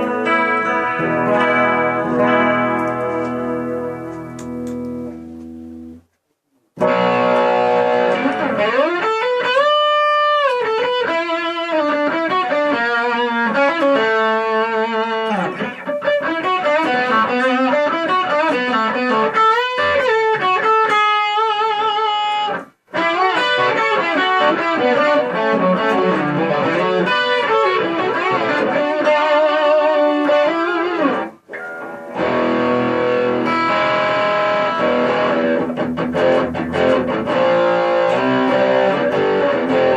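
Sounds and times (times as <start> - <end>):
electric guitar lead: 0.0 - 6.1, 6.8 - 39.9.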